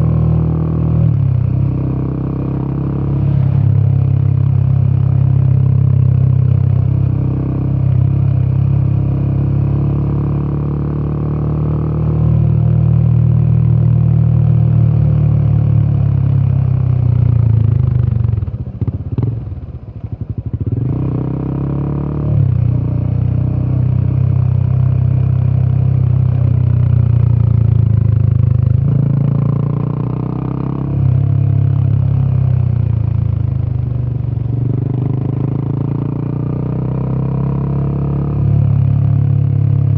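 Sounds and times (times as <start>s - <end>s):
motorcycle engine running: 0.0s - 11.0s, 12.0s - 39.9s.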